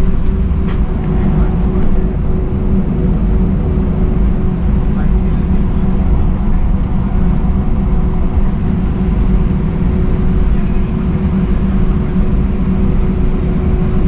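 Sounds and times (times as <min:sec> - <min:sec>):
airliner cabin engine hum: 0:00.0 - 0:14.0
faint steady whine: 0:00.0 - 0:14.0.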